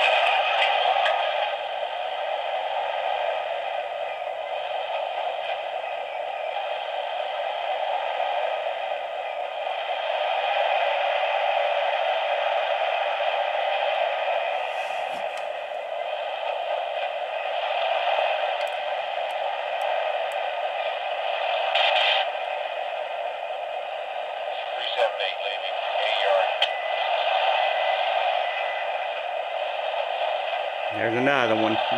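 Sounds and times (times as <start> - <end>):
radio clicks and crackles: 0.0 - 31.9
radio static hiss: 0.0 - 31.9.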